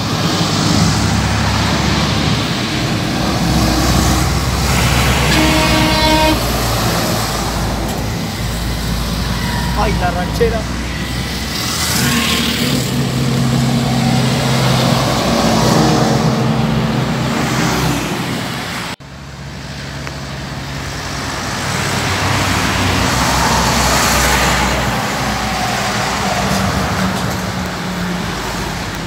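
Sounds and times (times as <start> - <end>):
truck engine and tyre noise: 0.0 - 29.0.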